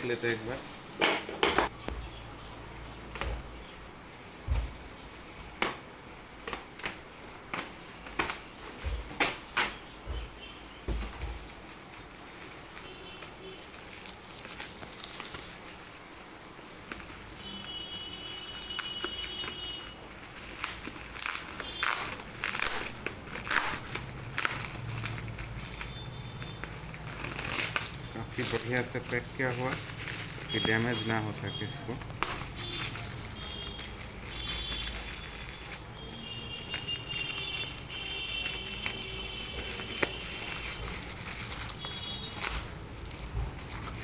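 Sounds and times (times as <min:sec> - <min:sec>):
packing material crinkling: 0:00.0 - 0:01.0, 0:01.6 - 0:44.0.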